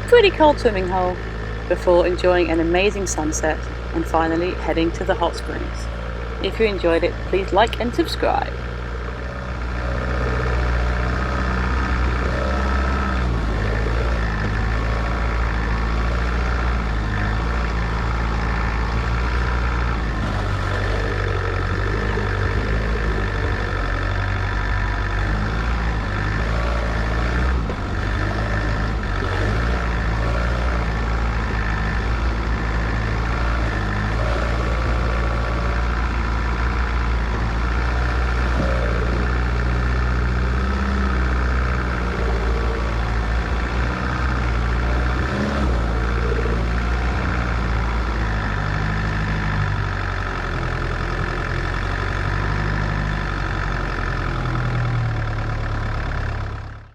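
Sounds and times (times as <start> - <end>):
vehicle engine droning: 0.0 - 56.9.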